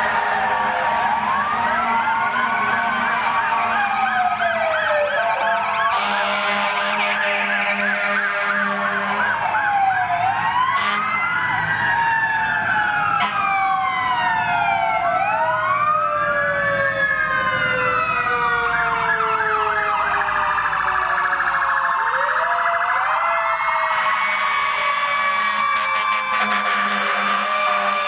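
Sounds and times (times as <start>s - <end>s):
fast siren yelp: 0.0s - 28.0s
fire truck sirens wailing: 0.0s - 28.0s.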